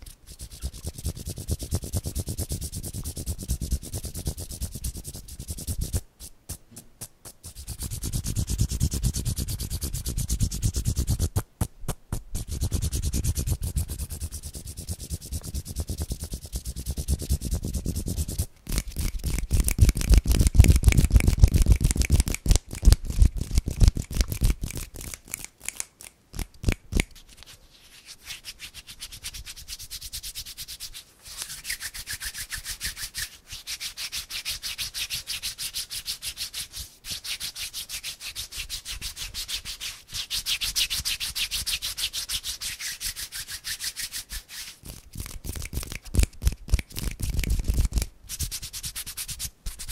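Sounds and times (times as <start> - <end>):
hands rubbing together: 0.0 - 49.9.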